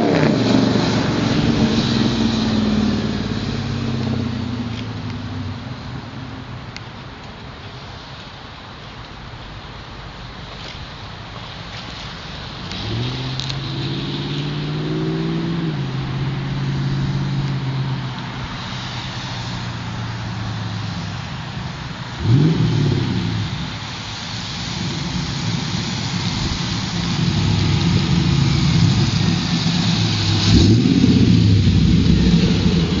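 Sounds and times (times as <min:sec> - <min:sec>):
car engine revving: 0:00.0 - 0:06.7, 0:12.4 - 0:33.0.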